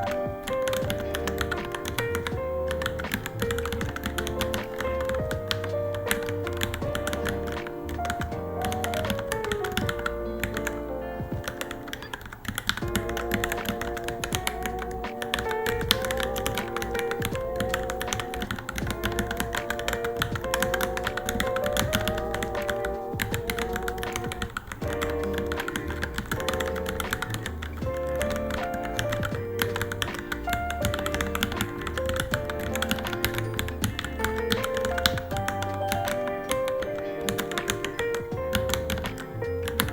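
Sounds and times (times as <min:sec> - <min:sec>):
fast mechanical keyboard typing: 0:00.0 - 0:10.8, 0:11.4 - 0:39.9
background music with melody: 0:00.0 - 0:39.9.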